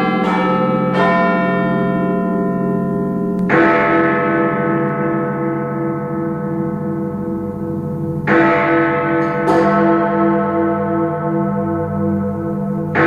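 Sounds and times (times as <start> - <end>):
clock bells ringing: 0.0 - 13.0.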